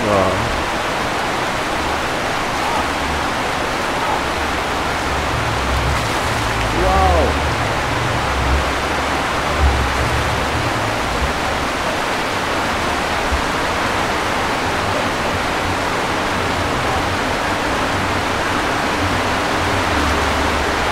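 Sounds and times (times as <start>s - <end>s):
rain falling: 0.0s - 20.9s
low bumps: 1.5s - 20.8s.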